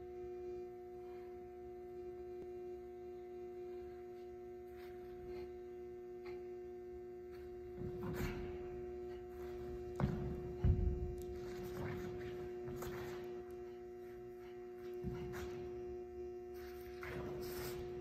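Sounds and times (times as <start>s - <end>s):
electrical hum of held tones: 0.0s - 18.0s.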